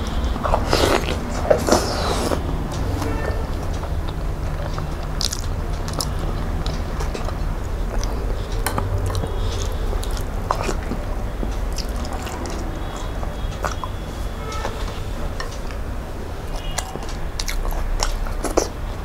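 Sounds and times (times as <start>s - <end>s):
chewing and wet mouth smacking: 0.0s - 19.0s
steady low hum: 0.0s - 19.0s.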